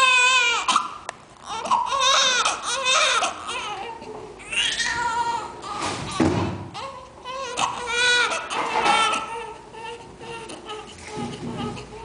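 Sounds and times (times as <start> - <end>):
baby crying: 0.0 - 12.0.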